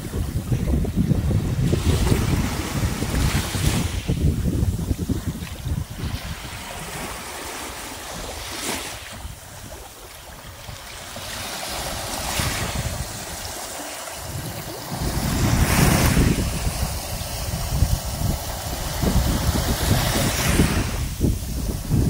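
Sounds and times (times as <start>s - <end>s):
small waves lapping on sand: 0.0s - 22.0s
wind buffeting microphone: 0.0s - 22.0s.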